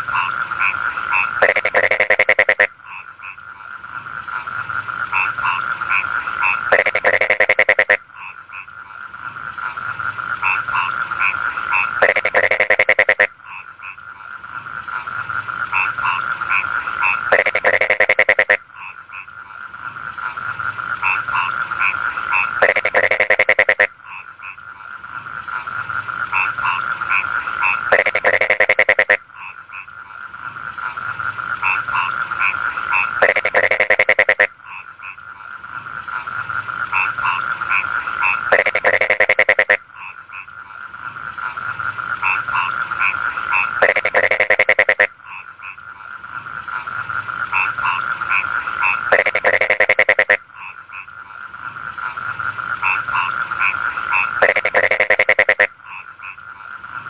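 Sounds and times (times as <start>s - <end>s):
bursts of rapid frog croaks: 0.0s - 57.0s
frogs croaking in chorus: 0.0s - 57.0s.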